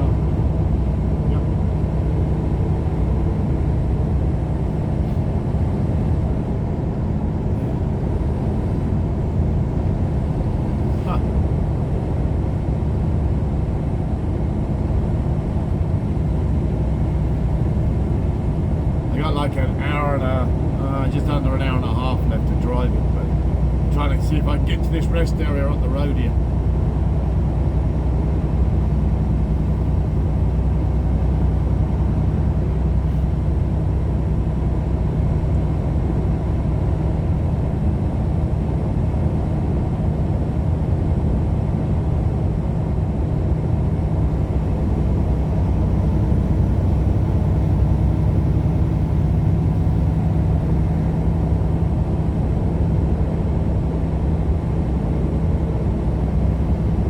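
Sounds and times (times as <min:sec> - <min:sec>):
vehicle road and engine drone: 0:00.0 - 0:57.0.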